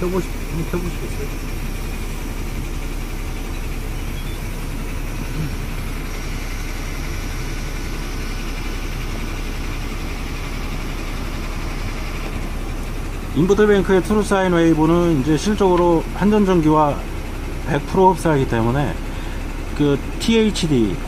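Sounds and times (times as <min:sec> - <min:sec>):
air purifier fan running: 0:00.0 - 0:21.0.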